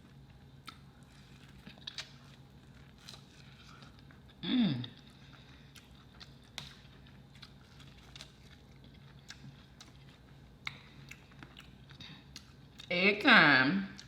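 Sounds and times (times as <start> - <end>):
person chewing: 0.0 - 12.9.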